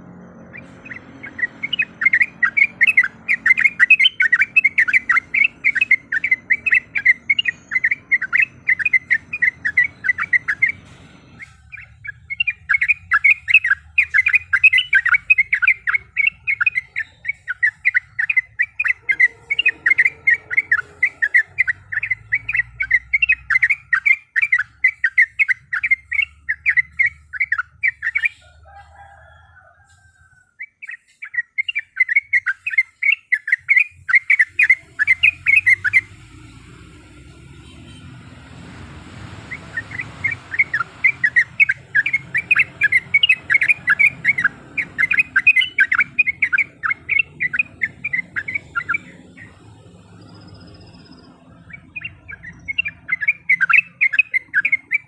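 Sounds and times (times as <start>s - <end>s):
bulbul chattering song: 0.0s - 29.2s, 30.5s - 55.0s.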